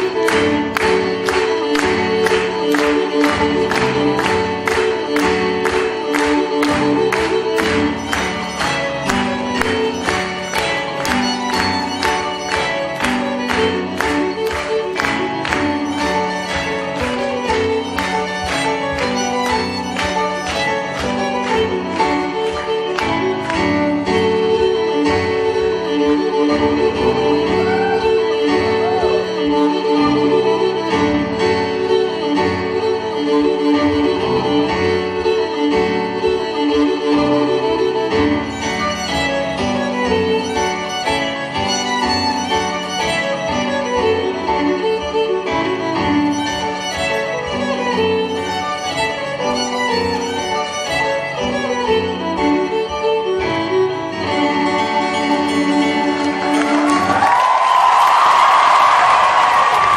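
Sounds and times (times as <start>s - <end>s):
piano accompaniment: 0.0s - 59.9s
violin melody: 0.0s - 59.9s.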